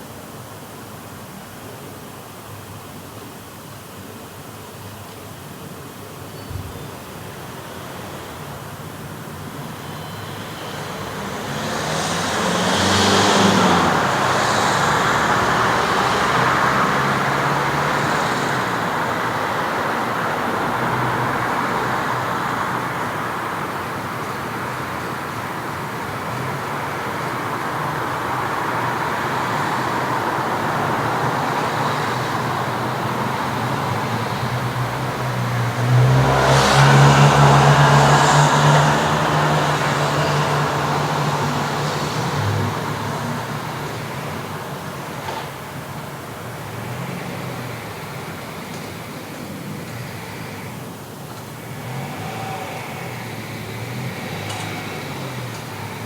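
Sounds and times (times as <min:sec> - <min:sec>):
road noise: 0:00.0 - 0:56.0
vehicle engine drone: 0:06.6 - 0:56.0
cars passing: 0:06.7 - 0:56.0.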